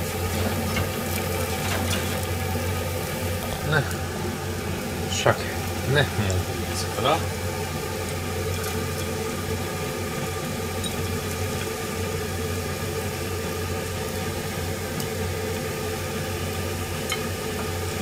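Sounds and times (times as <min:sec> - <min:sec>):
kitchen appliances humming: 0:00.0 - 0:18.0.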